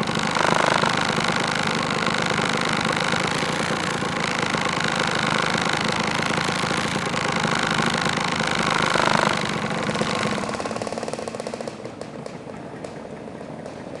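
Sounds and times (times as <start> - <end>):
scooter engines idling: 0.0 - 14.0.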